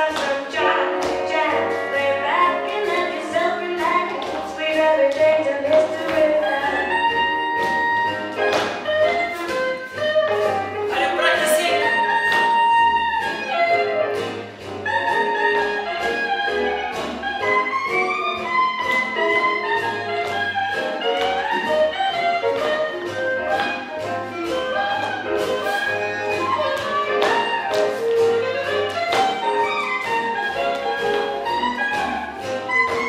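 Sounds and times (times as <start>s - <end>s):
swing jazz with brass and saxophones: 0.0s - 33.0s.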